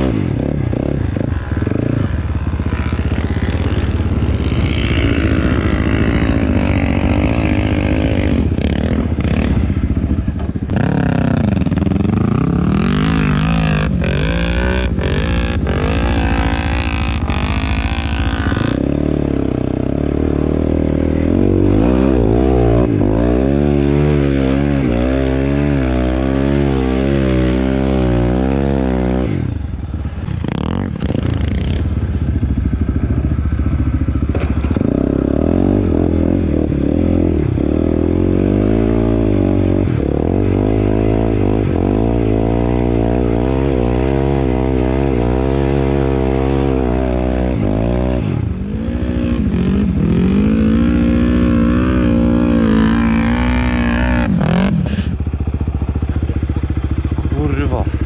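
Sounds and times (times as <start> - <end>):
quad engine revving: 0.0 - 32.9, 33.8 - 58.0.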